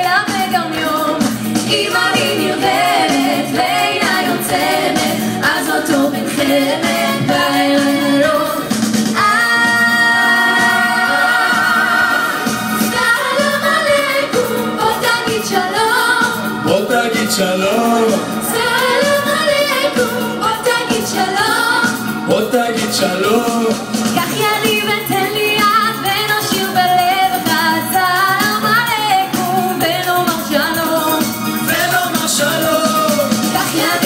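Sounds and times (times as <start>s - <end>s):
mixed vocal group singing in harmony: 0.0s - 34.0s.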